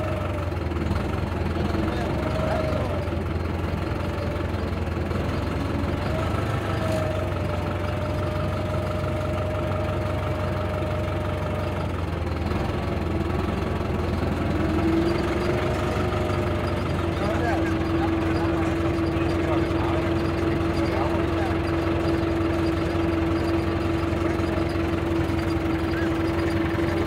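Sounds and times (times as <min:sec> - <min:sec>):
steady engine whine: 0:00.0 - 0:27.0
tractor diesel engine droning: 0:00.0 - 0:27.0.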